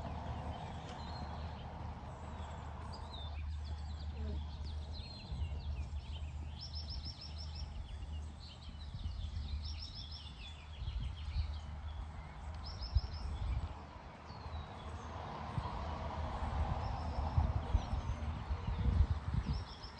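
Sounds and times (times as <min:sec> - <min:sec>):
small birds chirping: 0:00.0 - 0:15.1, 0:16.9 - 0:19.9.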